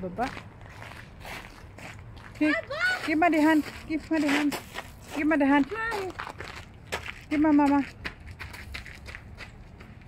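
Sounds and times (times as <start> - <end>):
soft footsteps: 0.2 - 10.0.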